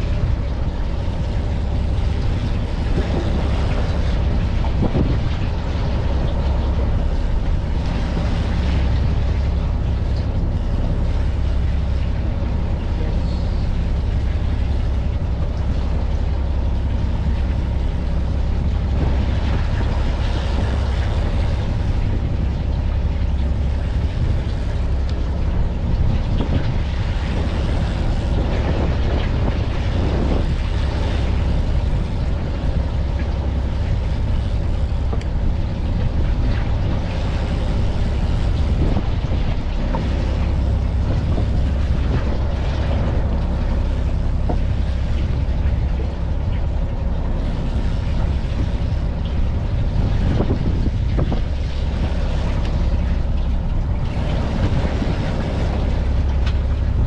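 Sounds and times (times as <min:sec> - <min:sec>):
boat engine rumbling: 0:00.0 - 0:57.0
water noise: 0:00.0 - 0:57.0
wind: 0:00.0 - 0:57.0.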